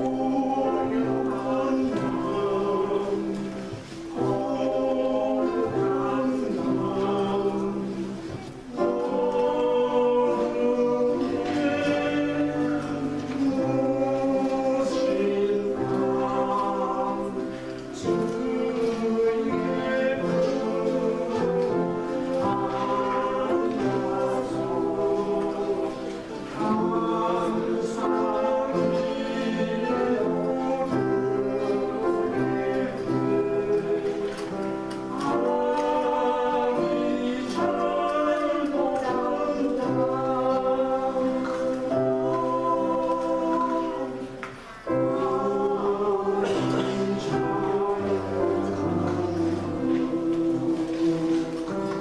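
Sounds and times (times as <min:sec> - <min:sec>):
choir singing: 0:00.0 - 0:52.0
instrumental accompaniment: 0:00.0 - 0:52.0.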